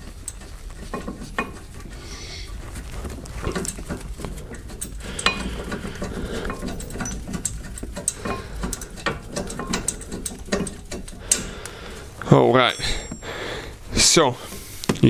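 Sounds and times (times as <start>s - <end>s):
metallic clicks and scrapes: 0.0s - 13.2s.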